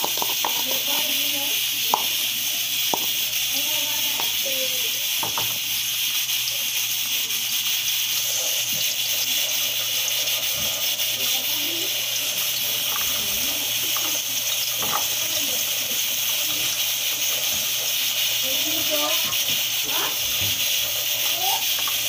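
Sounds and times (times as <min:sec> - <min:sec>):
pressure cooker hissing: 0:00.0 - 0:22.0.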